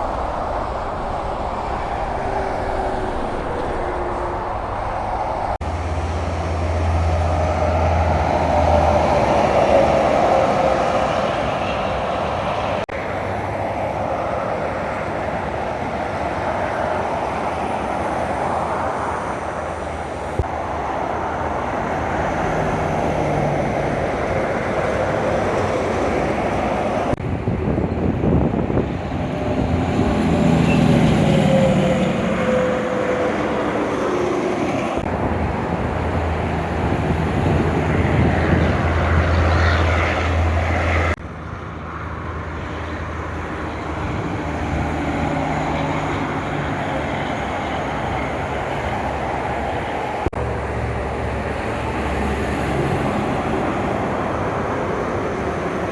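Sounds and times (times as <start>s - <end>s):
truck passing by: 0.0s - 55.9s
trucks engine drone: 0.0s - 55.9s.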